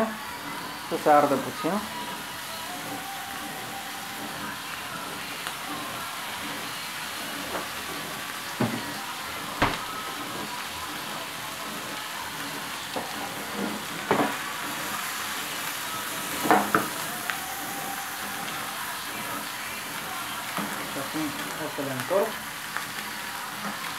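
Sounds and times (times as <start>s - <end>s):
fish sizzling in hot oil: 0.0s - 23.9s.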